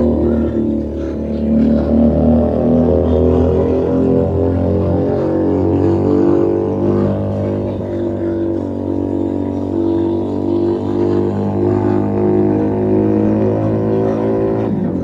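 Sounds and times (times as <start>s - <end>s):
motorcycle exhaust drone: 0.0s - 15.0s.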